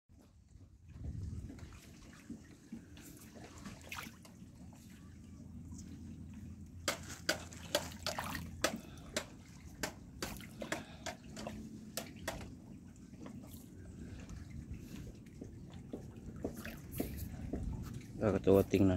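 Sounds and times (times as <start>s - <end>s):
low steady rumble: 0.2s - 18.9s
water splashing: 0.8s - 18.8s.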